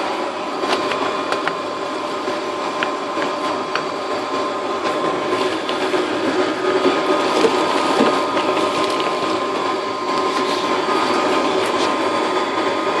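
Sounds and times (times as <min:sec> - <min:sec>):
blower motor humming and whining: 0:00.0 - 0:13.0
air rushing through hose: 0:01.7 - 0:13.0.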